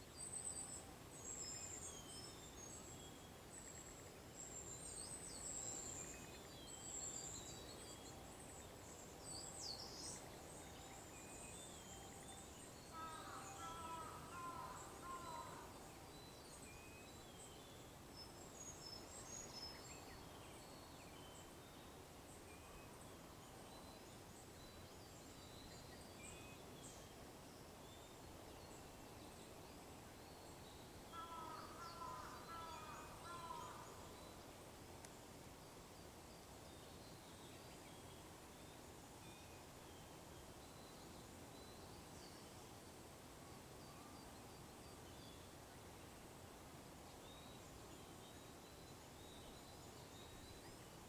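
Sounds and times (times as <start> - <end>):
steady outdoor hiss: 0.0 - 51.0.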